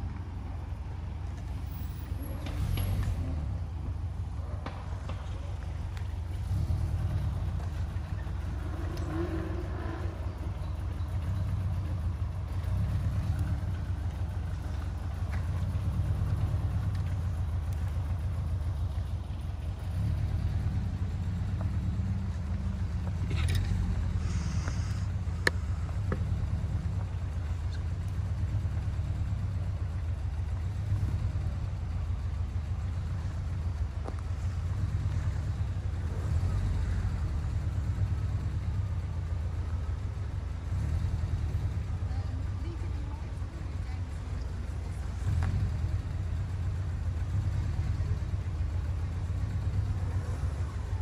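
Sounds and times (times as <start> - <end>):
car engines driving past: 0.0 - 51.0.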